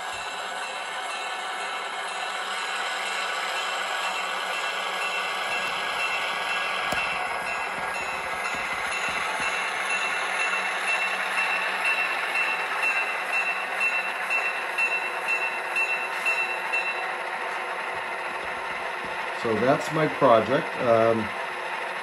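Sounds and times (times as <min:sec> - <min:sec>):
locomotive bell ringing: 0:00.0 - 0:22.0
model diesel engine sound: 0:00.0 - 0:22.0.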